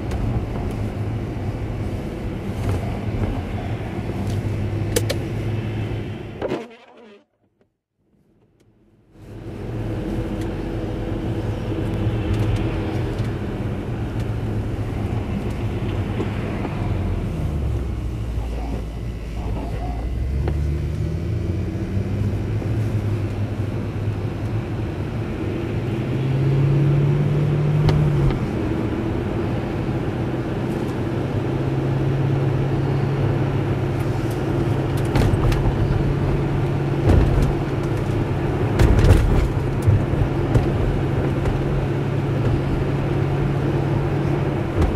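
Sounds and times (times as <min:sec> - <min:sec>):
car engine from inside cabin: 0:00.0 - 0:06.6, 0:08.2 - 0:44.9
tyre and road noise: 0:00.0 - 0:44.9.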